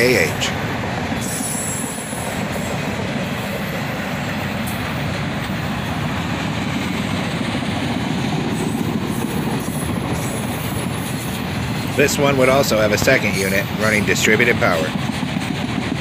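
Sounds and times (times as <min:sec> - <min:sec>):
train wheels rolling on rail: 0:00.0 - 0:16.0.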